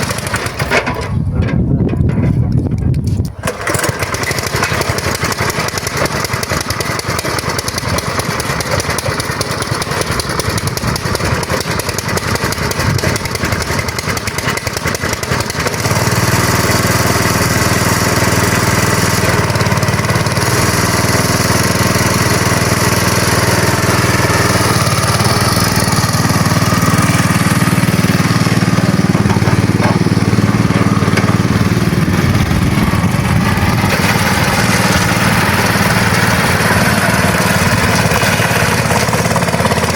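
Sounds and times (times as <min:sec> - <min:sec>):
small engine running: 0:00.0 - 0:01.0, 0:03.4 - 0:39.9.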